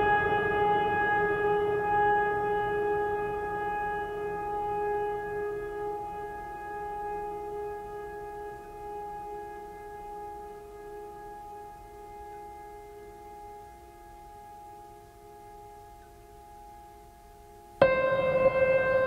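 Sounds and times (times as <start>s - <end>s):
long held music tone: 0.0s - 19.0s.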